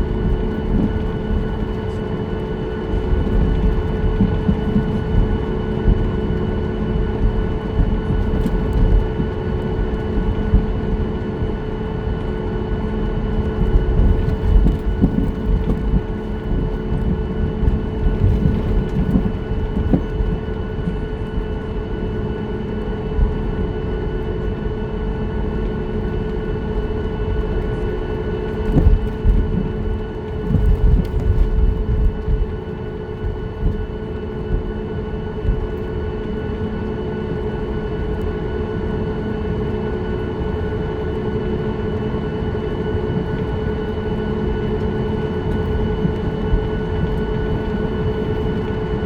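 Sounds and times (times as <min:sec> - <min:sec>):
airliner cabin engine hum: 0:00.0 - 0:49.0.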